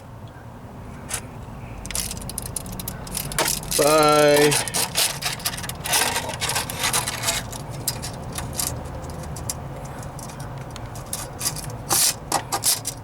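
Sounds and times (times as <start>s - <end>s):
light handling clicks and rubbing: 1.1s - 13.0s.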